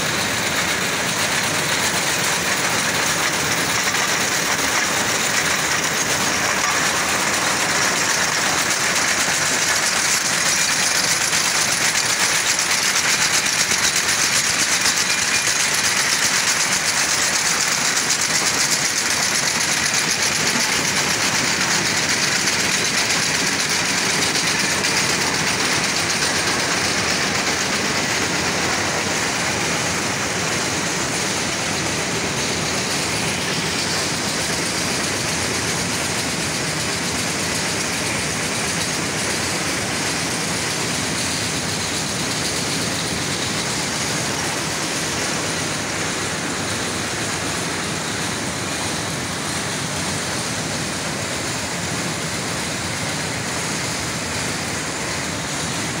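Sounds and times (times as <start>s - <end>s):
mill machines running: 0.0s - 56.0s.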